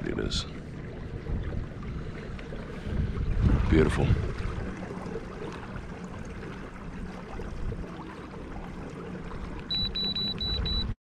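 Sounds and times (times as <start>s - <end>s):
water gurgling along kayak hull: 0.0s - 11.0s.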